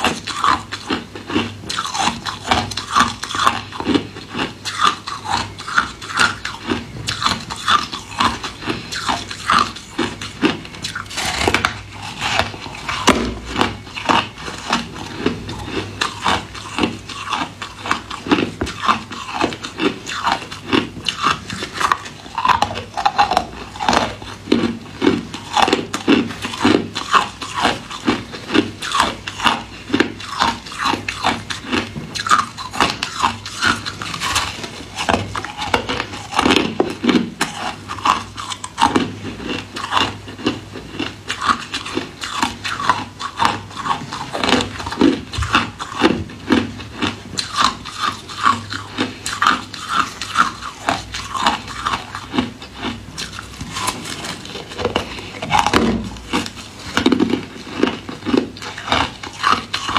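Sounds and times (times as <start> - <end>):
person crunching ice: 0.0 - 59.9.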